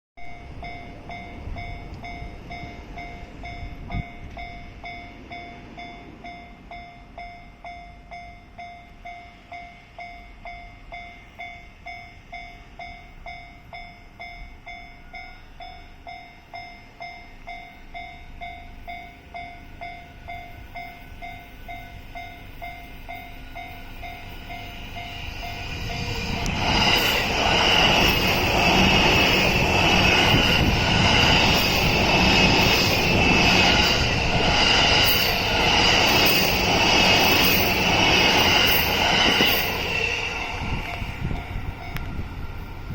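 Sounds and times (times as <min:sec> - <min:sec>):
electric train passing: 0:00.2 - 0:42.9.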